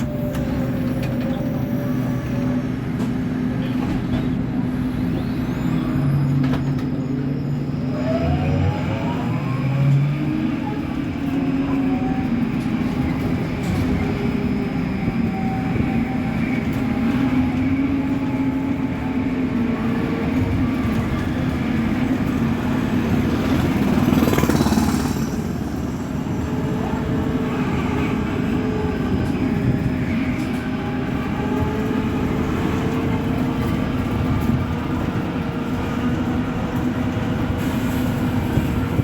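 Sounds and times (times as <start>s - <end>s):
road and body rumble: 0.0s - 39.0s.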